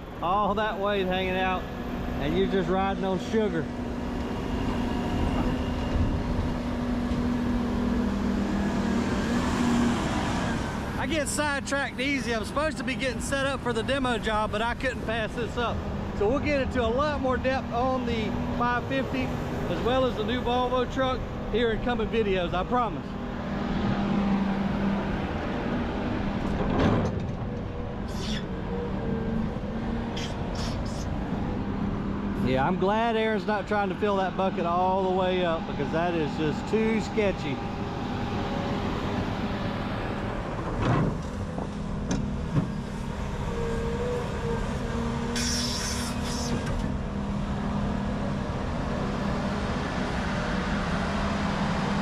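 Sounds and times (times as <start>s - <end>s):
heavy diesel machinery rumbling: 0.0s - 52.0s.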